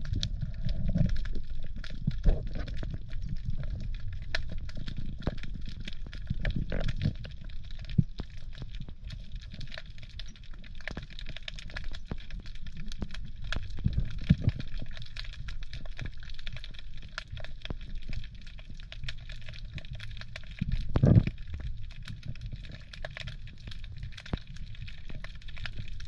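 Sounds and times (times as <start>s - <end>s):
low rumble of moving water: 0.0s - 26.0s
underwater clicks crackling: 0.0s - 26.0s.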